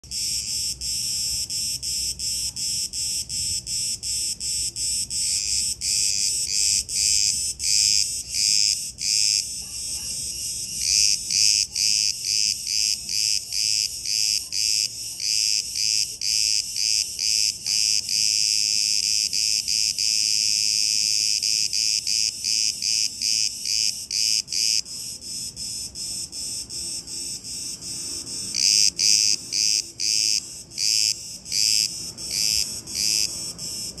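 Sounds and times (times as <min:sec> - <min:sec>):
cicadas chirping and buzzing: 0:00.0 - 0:34.0.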